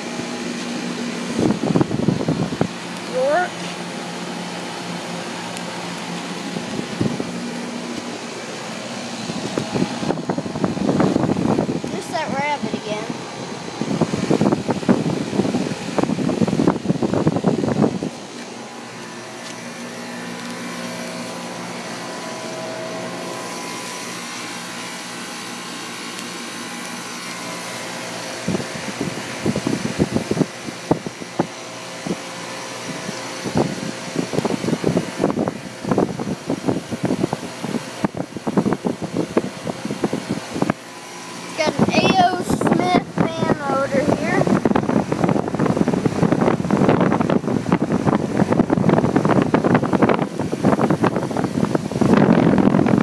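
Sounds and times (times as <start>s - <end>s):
air conditioner unit humming: 0.0s - 53.0s.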